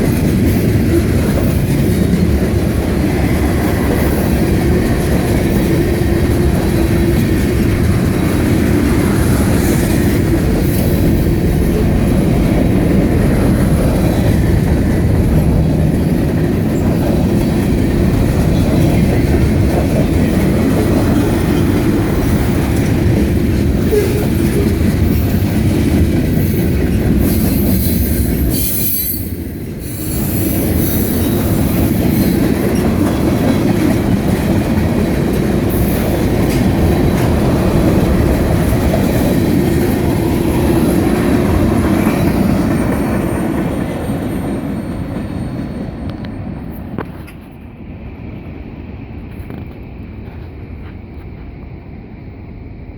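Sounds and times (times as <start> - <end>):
freight train cars rolling: 0.0 - 52.9.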